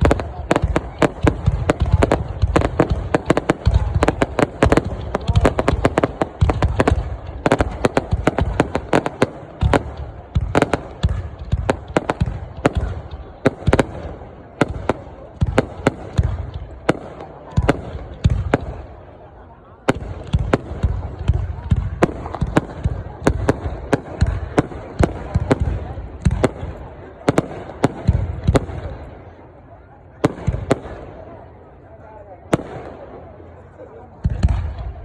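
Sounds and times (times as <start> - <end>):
deep fireworks booms: 0.0 - 31.7, 32.4 - 35.0
fireworks bangs and crackles: 0.0 - 35.0.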